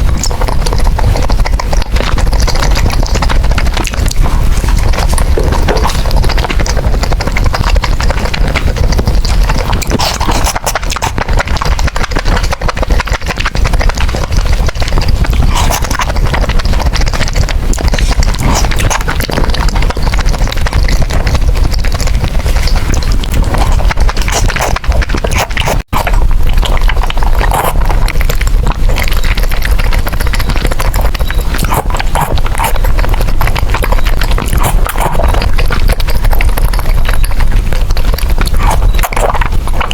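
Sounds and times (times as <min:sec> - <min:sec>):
person chewing and slurping noodles: 0:00.0 - 0:39.9.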